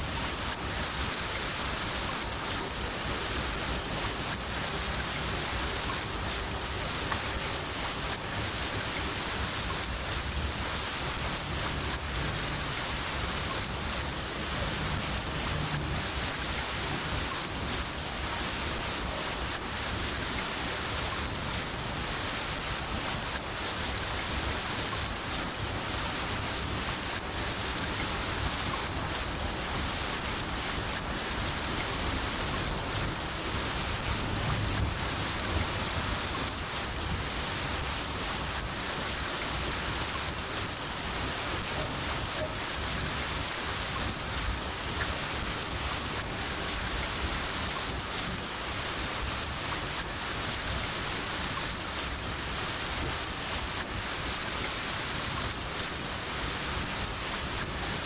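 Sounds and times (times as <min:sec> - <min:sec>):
cricket chirping: 0:00.0 - 0:58.0
rain hiss: 0:00.0 - 0:58.0.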